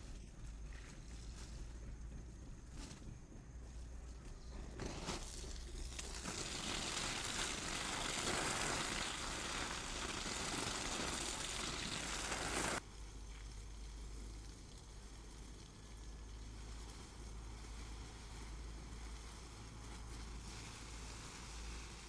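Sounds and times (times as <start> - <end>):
hose water spraying on leaves: 0.0 - 22.0.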